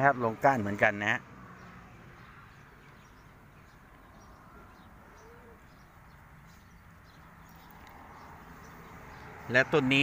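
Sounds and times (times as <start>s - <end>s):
distant bird calls: 1.0s - 10.0s.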